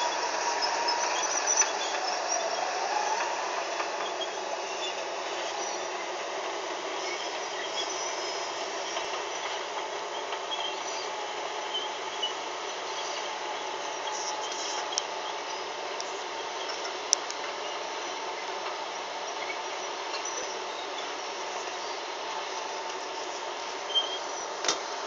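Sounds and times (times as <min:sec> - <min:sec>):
faint high squeals: 0:00.0 - 0:06.2, 0:06.9 - 0:15.8, 0:19.3 - 0:24.6.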